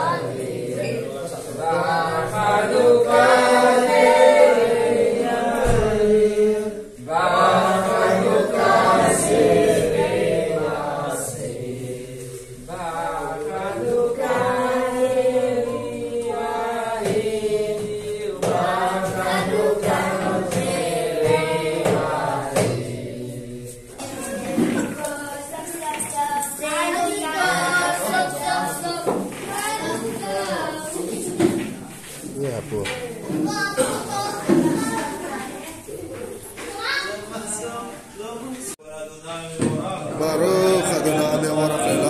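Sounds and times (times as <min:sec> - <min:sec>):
group singing unaccompanied: 0:00.0 - 0:35.4, 0:37.3 - 0:42.0.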